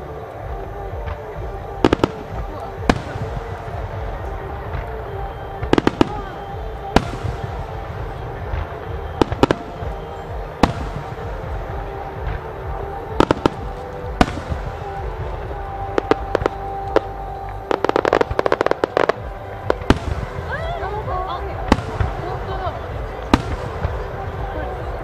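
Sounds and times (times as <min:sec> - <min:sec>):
music playing: 0:00.0 - 0:25.0.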